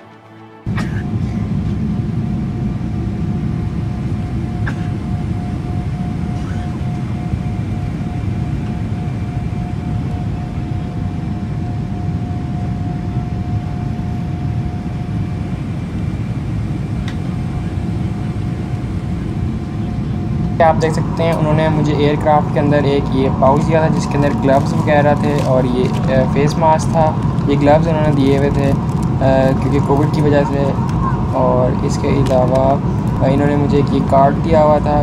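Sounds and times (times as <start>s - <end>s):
jet engine rumble: 0.6s - 35.0s
thin steady whine: 0.7s - 35.0s.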